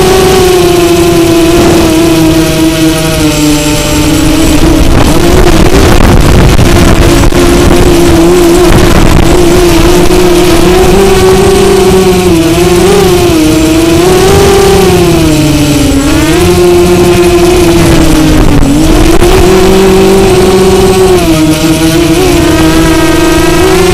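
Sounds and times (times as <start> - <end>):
drone propellers buzzing: 0.0 - 23.9
rushing noise: 0.0 - 23.9.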